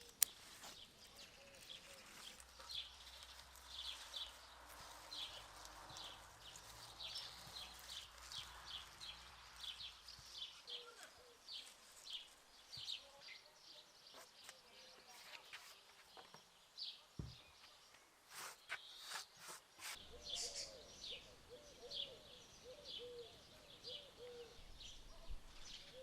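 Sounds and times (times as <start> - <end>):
small bird chirping: 0.0 - 26.0.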